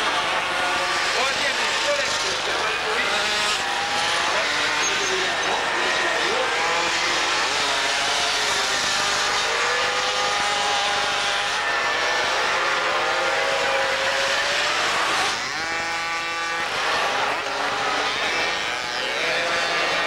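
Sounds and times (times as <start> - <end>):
moped revving up close: 0.0 - 20.0
racing mopeds buzzing: 0.0 - 20.0.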